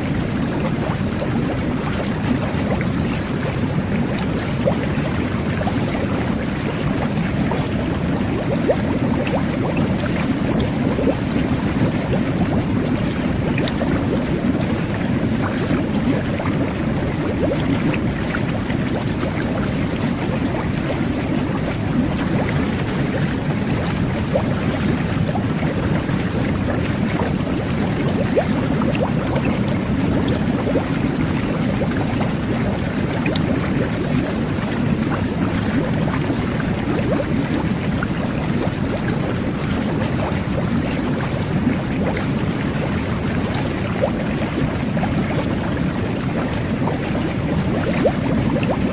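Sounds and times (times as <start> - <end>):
water jets churning and bubbling: 0.0 - 48.9.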